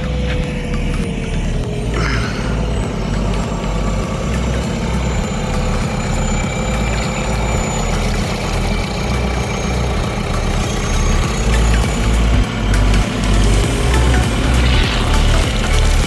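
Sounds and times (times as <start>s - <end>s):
road sweeper engine running: 0.0s - 16.0s.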